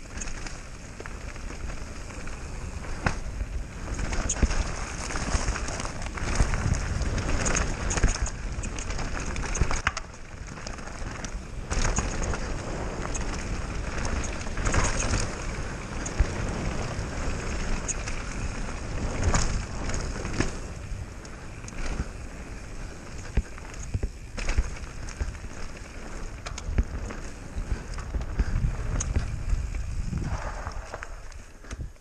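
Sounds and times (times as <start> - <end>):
bike knocks and rattles: 0.0 - 32.0
bike tyre rumble on dirt: 0.0 - 32.0
wind buffeting microphone: 0.9 - 32.0.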